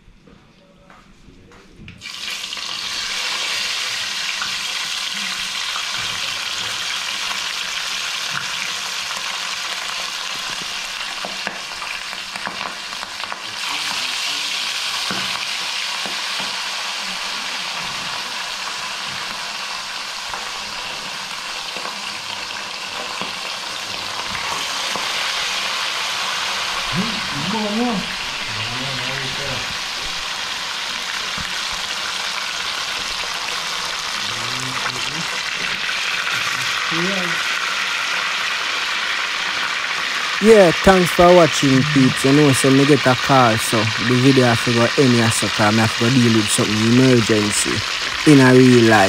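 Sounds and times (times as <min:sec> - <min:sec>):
fish sizzling in hot oil: 0:02.0 - 0:49.0.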